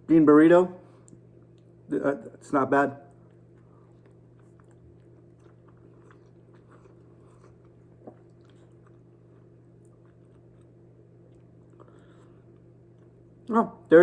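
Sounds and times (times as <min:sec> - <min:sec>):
steady low hum: 0:00.0 - 0:14.0
faint chewing: 0:00.9 - 0:01.8, 0:03.1 - 0:13.5.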